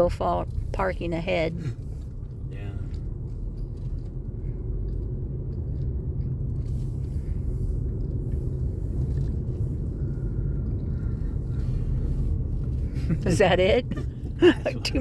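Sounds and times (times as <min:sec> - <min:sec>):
vehicle interior road rumble: 0:00.0 - 0:15.0.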